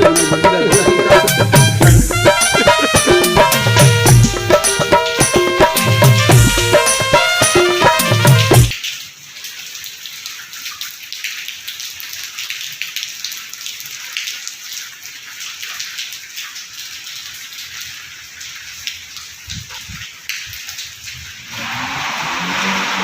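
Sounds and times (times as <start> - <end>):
rain falling on hard surfaces: 0.0 - 23.0.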